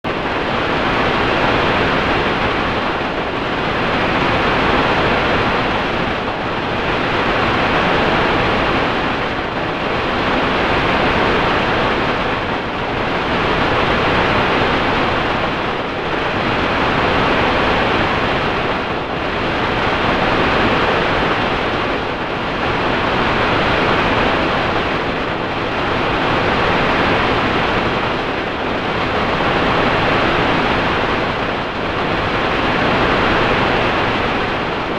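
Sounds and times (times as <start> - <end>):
dull rushing noise: 0.1 - 34.9.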